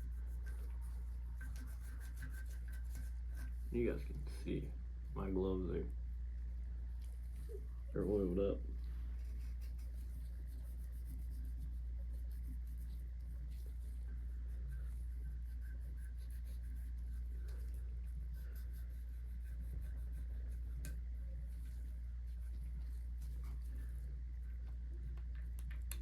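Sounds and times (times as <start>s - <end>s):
gloved hands rubbing metal parts: 0.0s - 4.3s, 9.0s - 25.6s
low steady hum: 0.0s - 26.0s.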